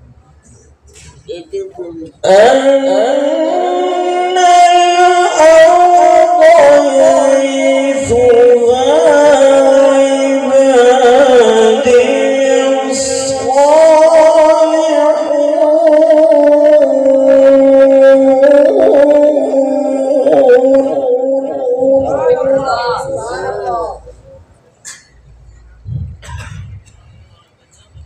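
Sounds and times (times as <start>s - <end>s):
man chanting melodically: 1.8s - 24.6s.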